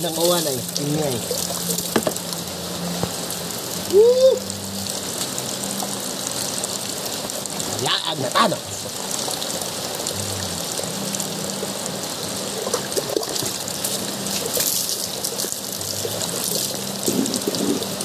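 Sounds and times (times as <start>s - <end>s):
heavy rain falling: 0.0s - 18.0s
water trickling: 0.0s - 18.0s.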